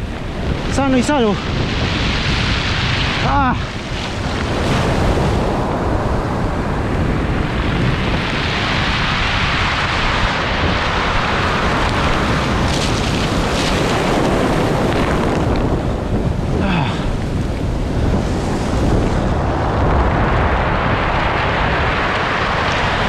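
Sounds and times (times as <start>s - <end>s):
sea surf washing ashore: 0.0s - 23.0s
wind noise on microphone: 0.0s - 23.0s.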